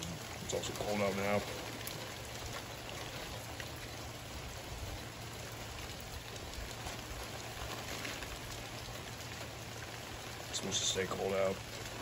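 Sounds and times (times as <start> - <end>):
hard rain falling: 0.0 - 12.0.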